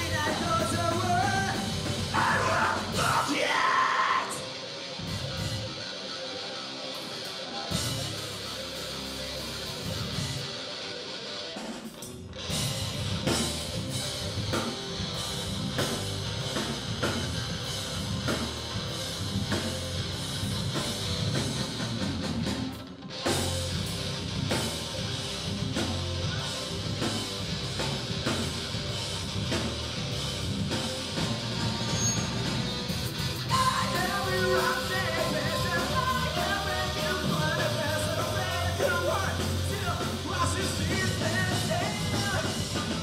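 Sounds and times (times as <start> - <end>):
drum kit: 0.0 - 6.1, 6.9 - 43.0
bass guitar: 0.0 - 43.0
electric guitar: 0.0 - 43.0.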